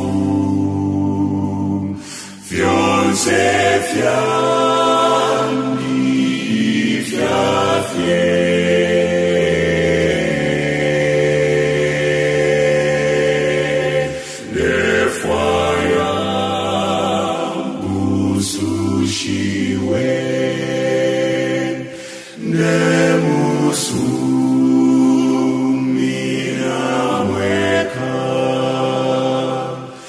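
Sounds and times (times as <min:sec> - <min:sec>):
choir singing a slow hymn: 0:00.0 - 0:30.0.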